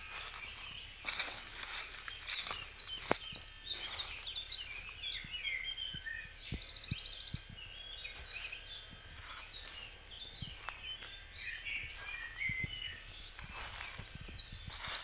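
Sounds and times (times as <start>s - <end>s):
songbirds singing and chirping: 0.0s - 15.0s.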